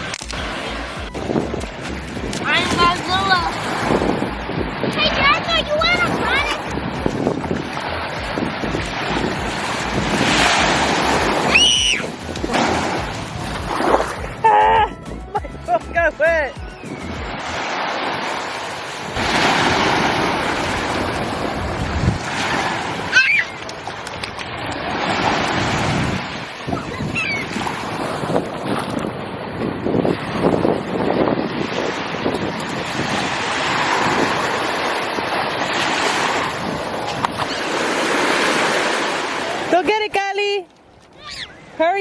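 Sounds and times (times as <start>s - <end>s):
surf washing up the shore: 0.0s - 14.9s, 15.7s - 40.2s
ocean waves breaking: 0.0s - 42.0s
wind buffeting microphone: 0.0s - 42.0s.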